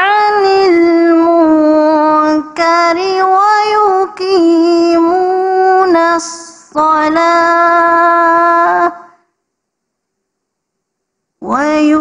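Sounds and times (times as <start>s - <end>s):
woman reciting melodically: 0.0s - 9.4s, 11.4s - 12.0s.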